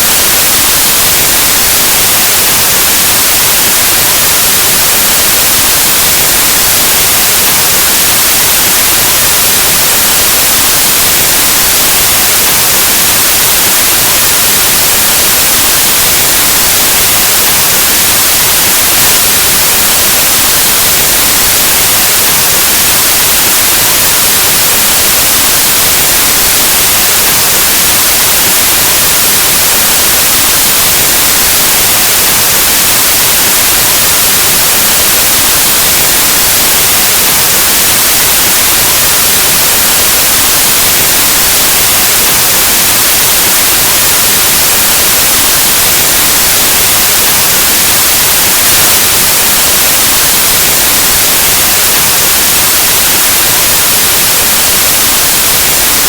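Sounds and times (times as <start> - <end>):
white noise static hiss: 0.0 - 56.0.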